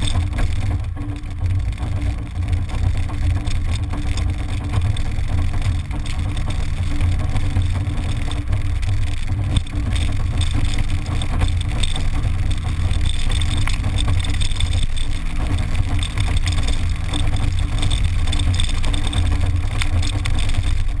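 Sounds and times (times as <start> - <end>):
car engine running: 0.0 - 21.0
wind and road noise: 0.0 - 21.0.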